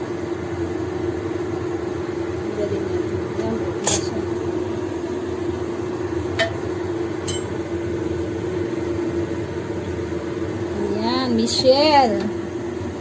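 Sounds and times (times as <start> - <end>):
kitchen hum: 0.0 - 13.0.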